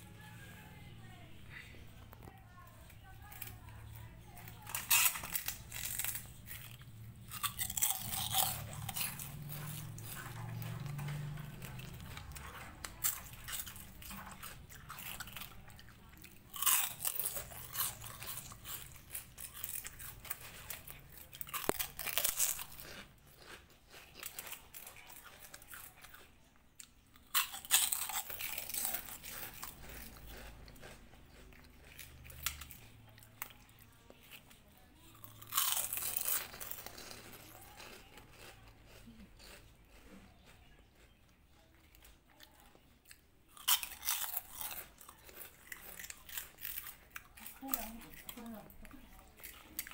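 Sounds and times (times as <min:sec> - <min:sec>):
kittens crunching snack: 0:00.0 - 0:49.9.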